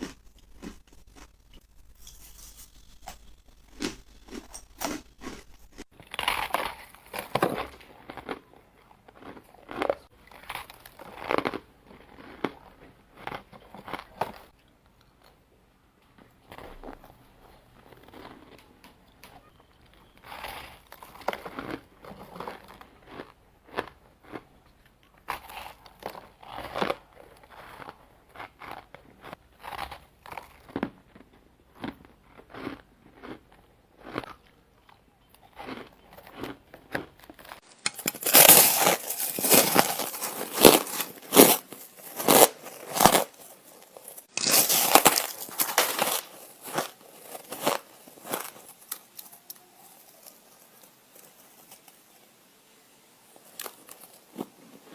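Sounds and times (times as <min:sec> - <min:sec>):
person chewing ice crunches: 0:00.0 - 0:14.6, 0:16.5 - 0:51.8.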